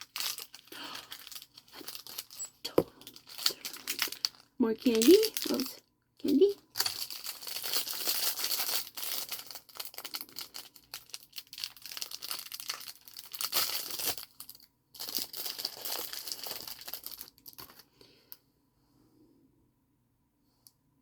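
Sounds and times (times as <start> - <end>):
plastic packaging crinkling and tearing: 0.0 - 17.9.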